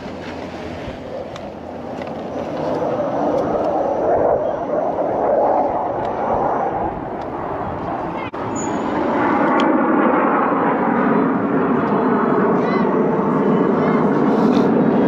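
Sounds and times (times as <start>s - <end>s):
jet flying over: 0.0s - 15.0s.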